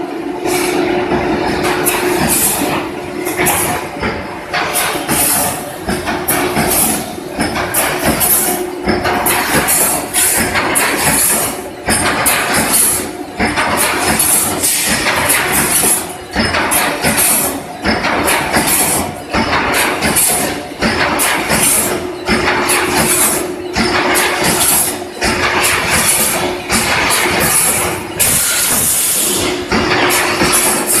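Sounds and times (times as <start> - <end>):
welding machine clatter and hiss: 0.0 - 31.0.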